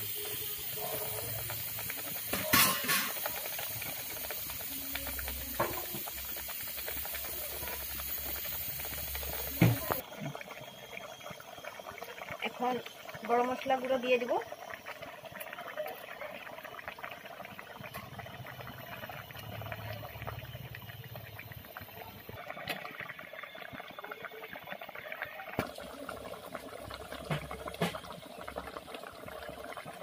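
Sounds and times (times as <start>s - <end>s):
gravy bubbles popping: 0.1s - 30.0s.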